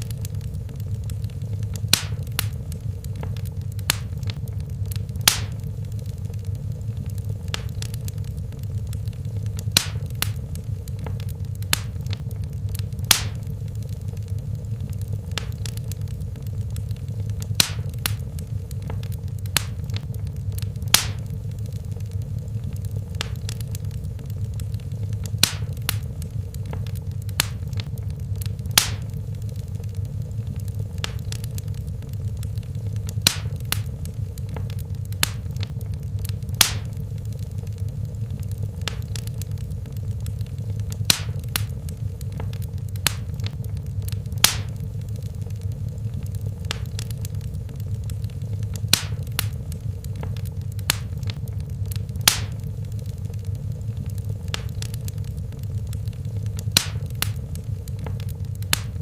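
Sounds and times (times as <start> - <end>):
fire burning in fireplace: 0.0 - 59.0
fire crackles and pops: 0.0 - 59.0.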